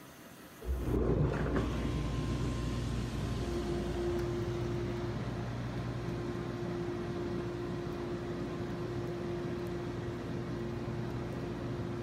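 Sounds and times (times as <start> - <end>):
whirlpool pump motor hum: 0.1 - 12.0
jets churning bathwater: 0.6 - 12.0.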